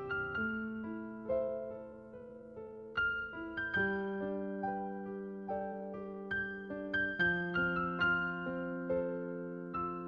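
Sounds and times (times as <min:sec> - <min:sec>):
slow keyboard melody: 0:00.0 - 0:10.0.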